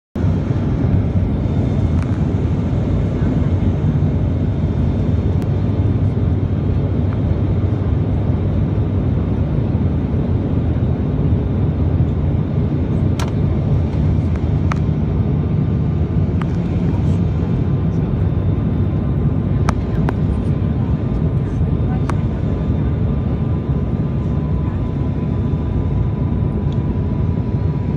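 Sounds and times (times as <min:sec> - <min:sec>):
turboprop engines droning: 0:00.2 - 0:27.9.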